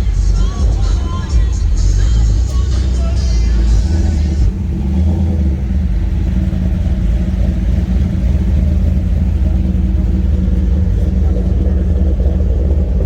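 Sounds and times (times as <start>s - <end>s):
car engine exhaust rumble: 0.0s - 13.0s.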